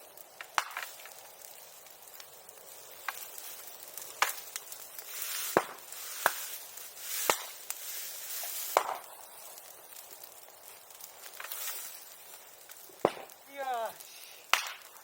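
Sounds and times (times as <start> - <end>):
bamboo popping in fire: 0.0 - 15.0
bonfire hissing: 0.0 - 15.0.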